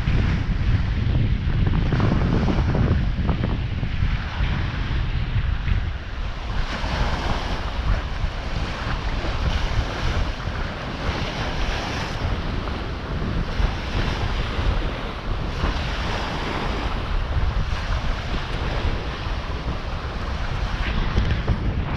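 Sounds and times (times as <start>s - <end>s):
sea waves washing onto beach: 0.0s - 21.9s
wind buffeting microphone: 0.0s - 21.9s.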